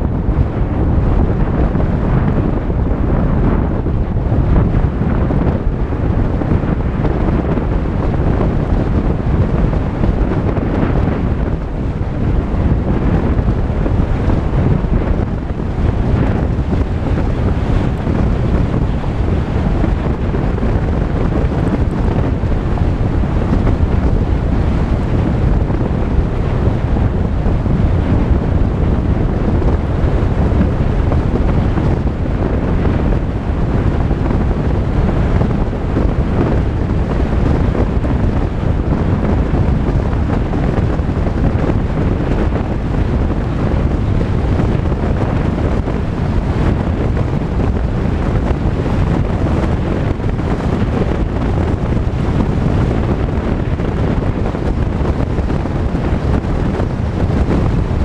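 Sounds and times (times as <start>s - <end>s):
tyre and road noise: 0.0s - 58.0s
wind: 0.0s - 58.0s.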